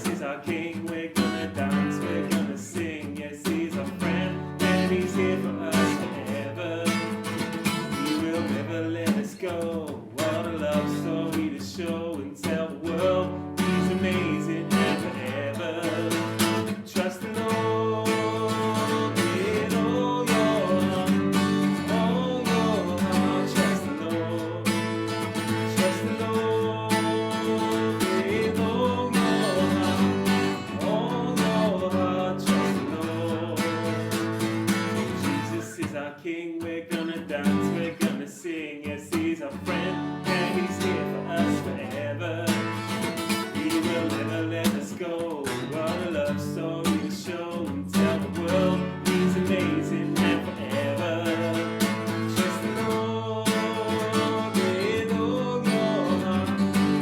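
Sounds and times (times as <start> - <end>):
worship song with acoustic guitar: 0.0 - 57.0.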